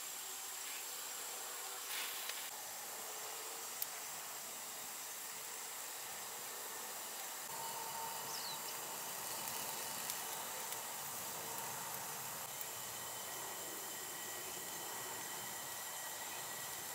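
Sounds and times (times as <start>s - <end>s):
campfire hissing and crackling: 0.0s - 16.9s.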